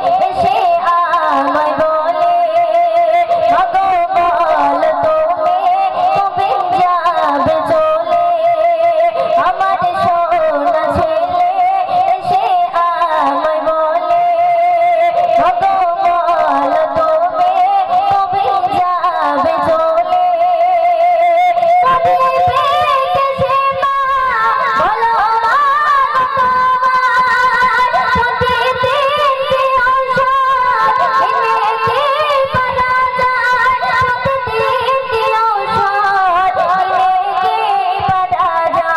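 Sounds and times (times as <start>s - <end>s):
girl singing into a microphone: 0.0s - 38.9s.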